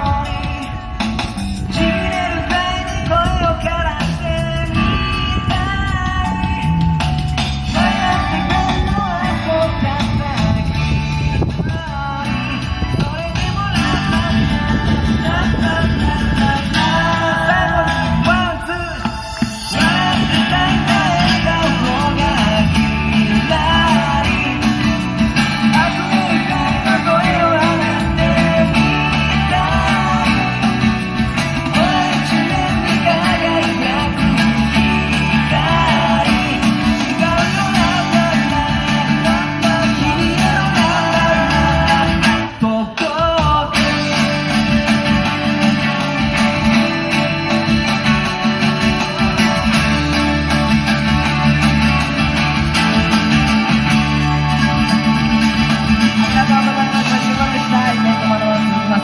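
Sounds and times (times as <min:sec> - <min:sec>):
man singing: 0:00.0 - 0:52.2, 0:53.2 - 0:59.0
acoustic guitar strumming: 0:00.0 - 0:59.0.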